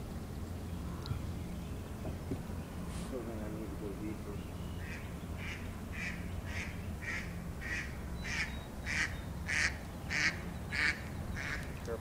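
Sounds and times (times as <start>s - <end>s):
bird calling overhead: 0.0s - 12.0s.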